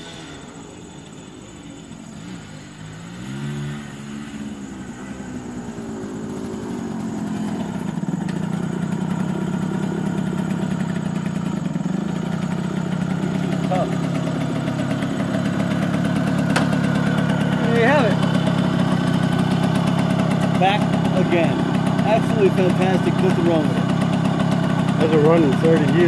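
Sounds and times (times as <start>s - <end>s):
motorbike two-stroke engine: 0.0s - 26.0s.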